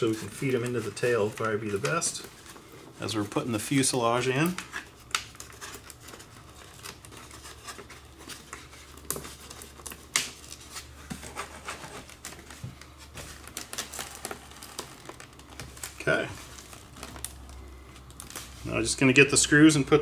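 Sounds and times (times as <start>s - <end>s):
foam parts scratching and rustling: 0.0s - 19.8s.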